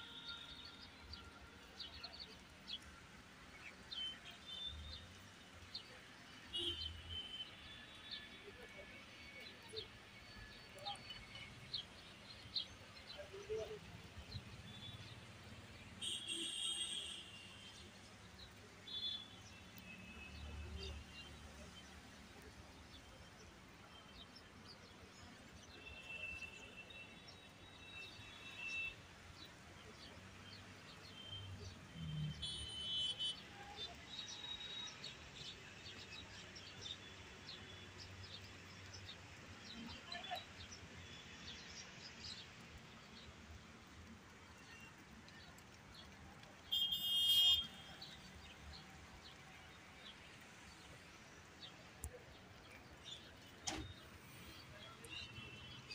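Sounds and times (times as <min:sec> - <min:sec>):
low outdoor background noise: 0:00.0 - 0:55.9.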